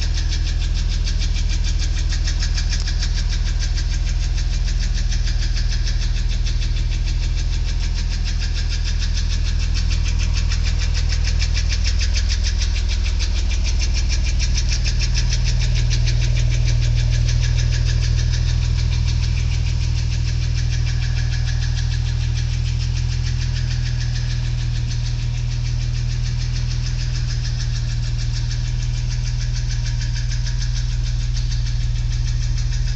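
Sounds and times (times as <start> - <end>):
car engine running: 0.0 - 32.9
metallic knocking tick: 0.1 - 32.9.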